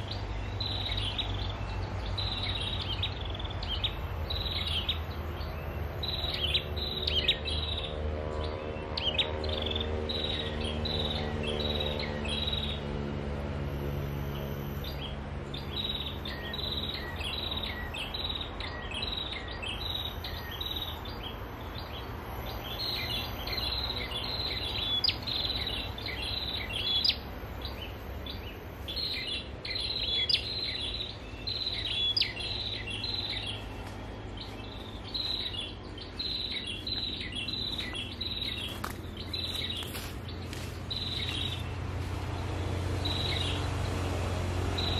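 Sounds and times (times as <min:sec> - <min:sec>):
birdsong from a speaker: 0:00.0 - 0:44.9
road traffic rumble: 0:00.0 - 0:44.9
vehicle engine: 0:00.0 - 0:44.9.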